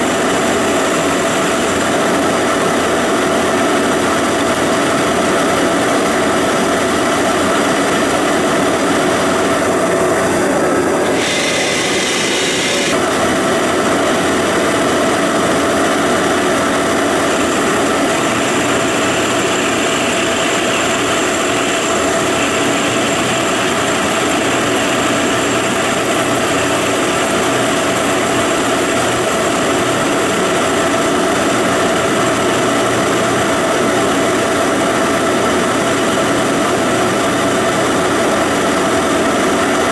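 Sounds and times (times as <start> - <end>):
lathe running: 0.0 - 39.9
thin high whine: 0.0 - 39.9.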